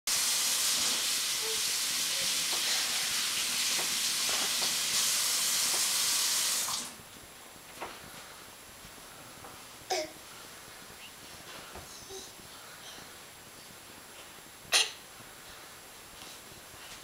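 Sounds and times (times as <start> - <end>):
loud steady hiss: 0.1 - 17.0.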